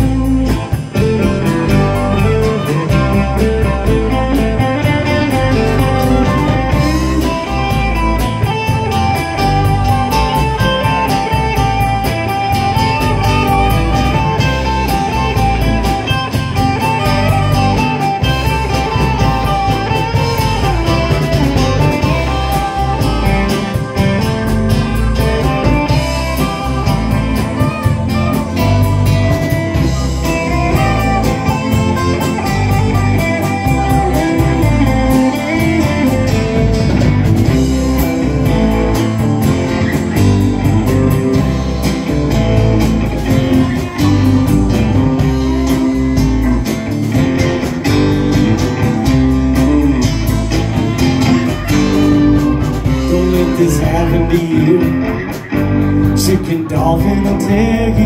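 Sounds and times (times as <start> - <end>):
bass guitar: 0.0 - 58.0
drums: 0.0 - 58.0
electric guitar: 0.0 - 58.0.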